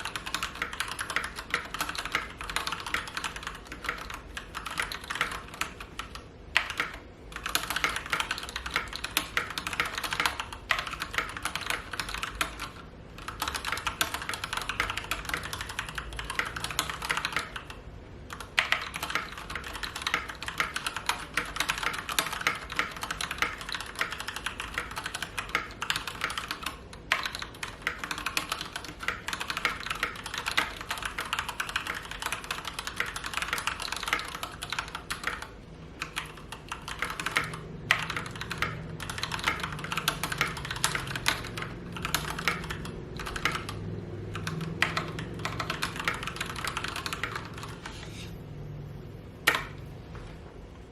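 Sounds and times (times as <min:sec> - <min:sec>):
typing on mechanical keyboard: 0:00.0 - 0:50.0.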